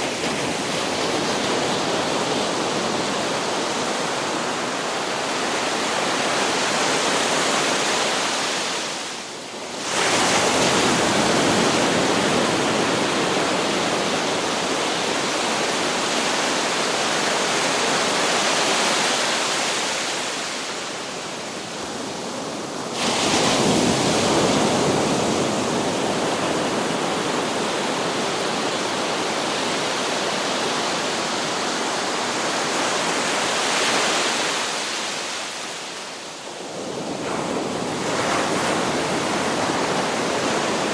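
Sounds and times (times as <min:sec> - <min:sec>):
surf washing on a beach: 0:00.0 - 0:40.9.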